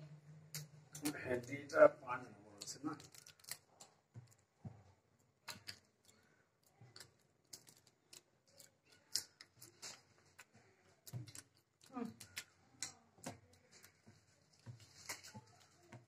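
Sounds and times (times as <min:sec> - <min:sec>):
objects handled on tabletop: 0:02.6 - 0:16.0.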